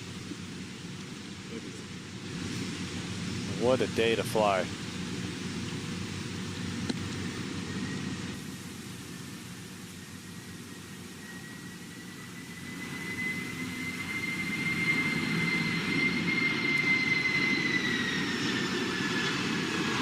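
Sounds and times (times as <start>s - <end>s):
jet flying low overhead: 0.0s - 20.0s.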